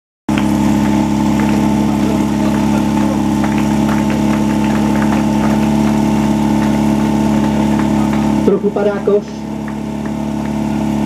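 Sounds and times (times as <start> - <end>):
fire pump engine idling: 0.3 - 11.0.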